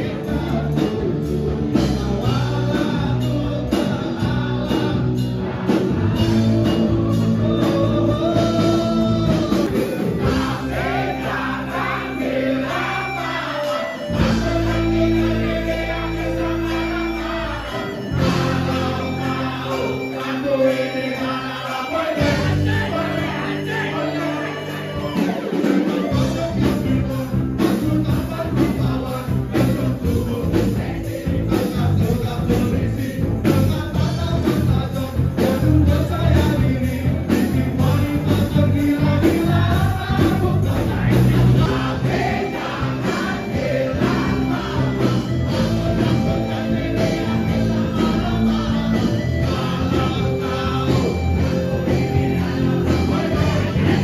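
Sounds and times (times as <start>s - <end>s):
bass line: 0.0s - 54.0s
singing over a beat: 0.0s - 54.0s.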